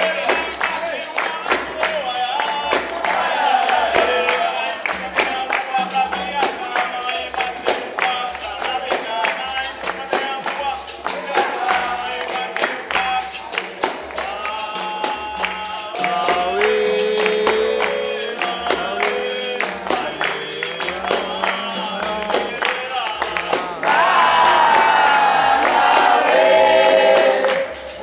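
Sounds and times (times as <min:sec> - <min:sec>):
steady percussion beat: 0:00.0 - 0:28.0
voices singing: 0:00.0 - 0:28.0.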